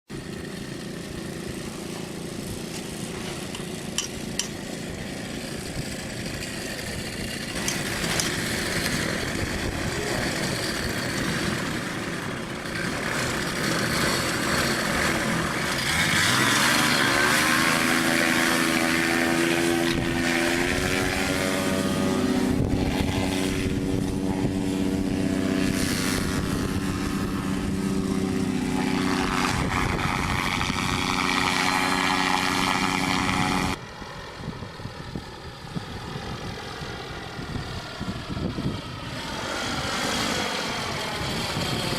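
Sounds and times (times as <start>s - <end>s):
paramotor engine and propeller: 0.1s - 41.9s.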